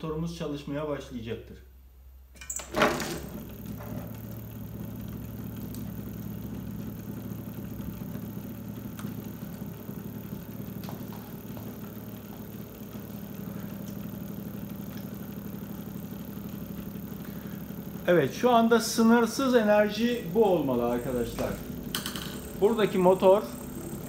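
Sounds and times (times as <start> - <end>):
electric motor low hum: 2.0 - 24.0.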